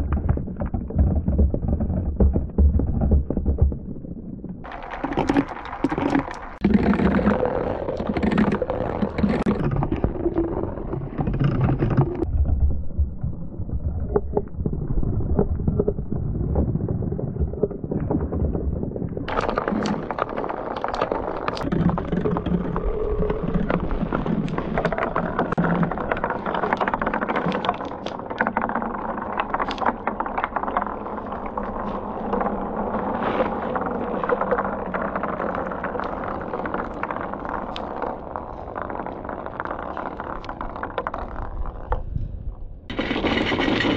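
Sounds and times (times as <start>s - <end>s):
marbles rolling down wooden chutes: 0.0s - 12.3s, 19.3s - 42.2s, 42.9s - 43.9s.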